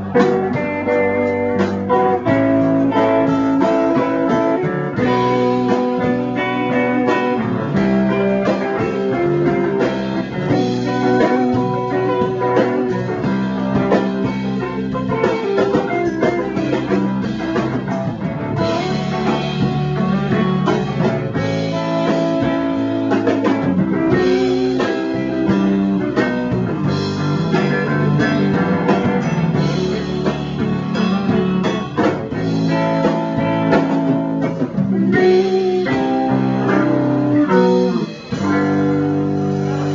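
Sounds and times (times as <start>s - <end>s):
drums: 0.0s - 39.9s
live blues rock band: 0.0s - 39.9s.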